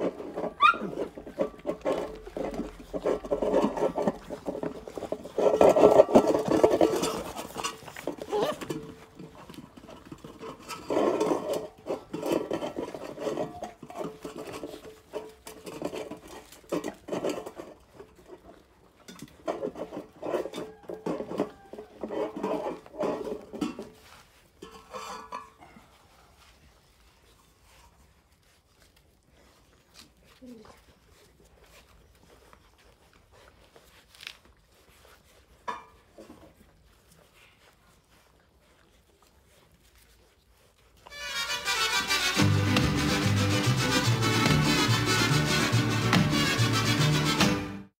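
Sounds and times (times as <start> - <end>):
puppies lapping and chewing: 0.0 - 47.7.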